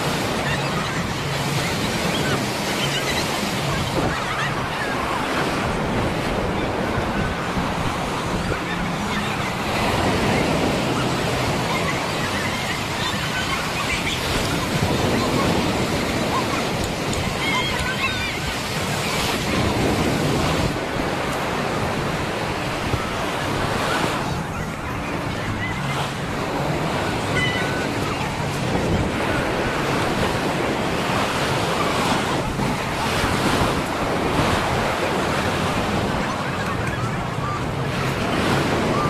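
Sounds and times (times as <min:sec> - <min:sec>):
ocean waves breaking on beach: 0:00.0 - 0:39.0.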